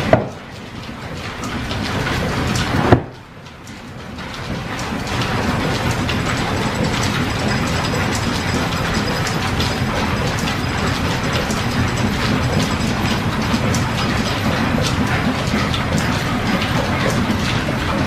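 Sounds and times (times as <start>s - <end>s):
machinery clattering: 0.0s - 18.0s.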